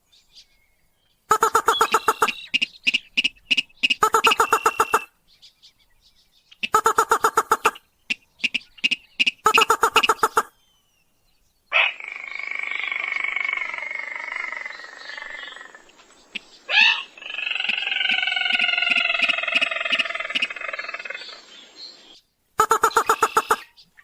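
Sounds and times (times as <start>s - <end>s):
bird churring call: 1.3s - 5.1s, 6.6s - 10.5s, 11.7s - 23.8s.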